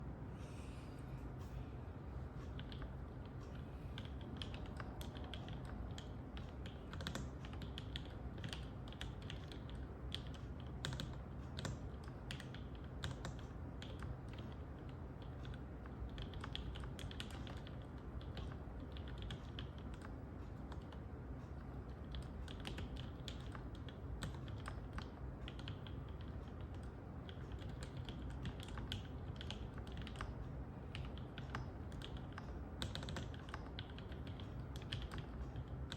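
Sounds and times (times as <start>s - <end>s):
fast typing on mechanical keyboard: 4.0s - 35.9s.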